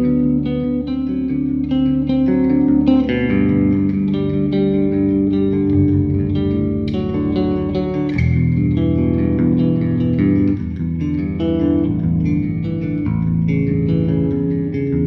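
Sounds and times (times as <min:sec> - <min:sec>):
bass guitar chords and notes: 0:00.0 - 0:15.0.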